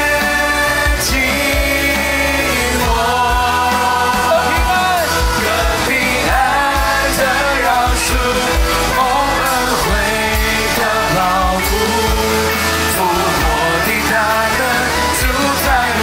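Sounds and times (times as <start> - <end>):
band playing: 0.0 - 16.0
drum beat and cymbals: 0.0 - 16.0
person singing: 0.0 - 16.0.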